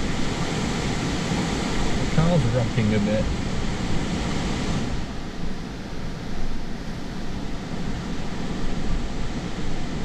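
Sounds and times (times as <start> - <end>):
strong gusting wind: 0.0 - 10.0.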